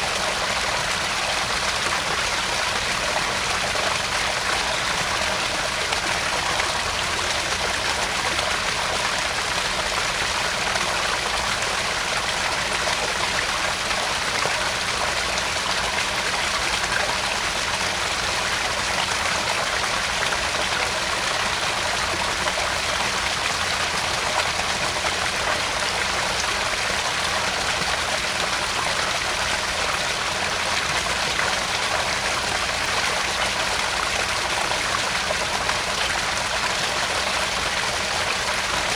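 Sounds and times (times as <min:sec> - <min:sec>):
water splashing into pond: 0:00.0 - 0:38.9.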